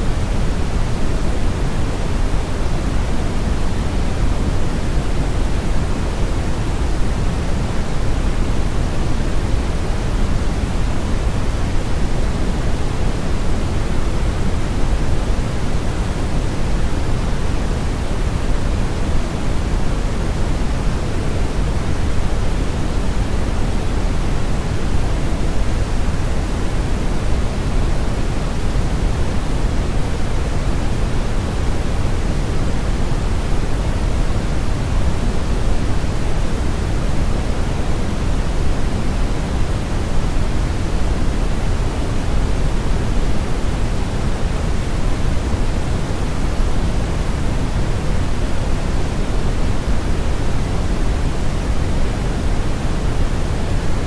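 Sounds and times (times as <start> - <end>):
steady brown noise: 0.0 - 54.0.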